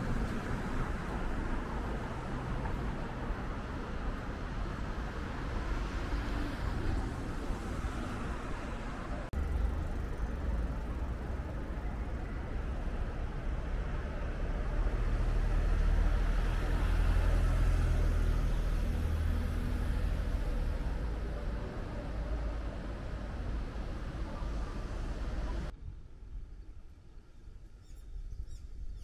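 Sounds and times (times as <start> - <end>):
city traffic rumble: 0.0 - 27.7.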